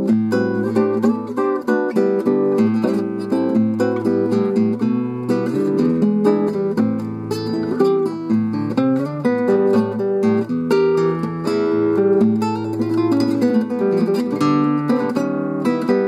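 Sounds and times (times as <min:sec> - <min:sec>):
classical guitar fingerstyle: 0:00.0 - 0:16.0.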